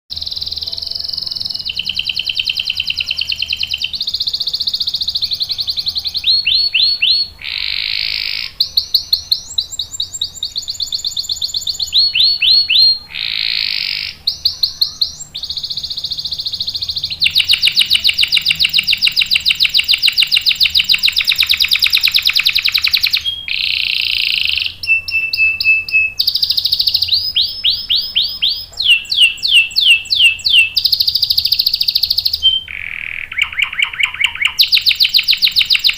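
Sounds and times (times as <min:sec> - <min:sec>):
canary singing trills: 0:00.1 - 0:35.9.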